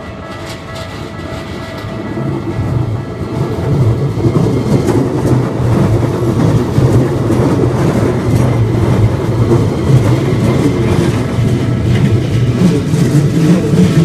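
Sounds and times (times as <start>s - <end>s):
electric train rumbling past: 0.0s - 14.0s.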